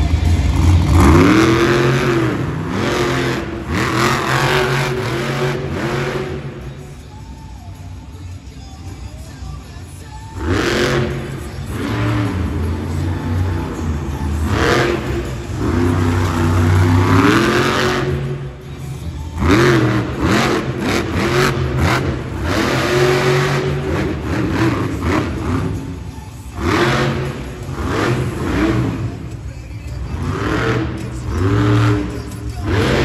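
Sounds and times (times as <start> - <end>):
monster truck engine revving: 0.0 - 7.1, 10.3 - 33.0.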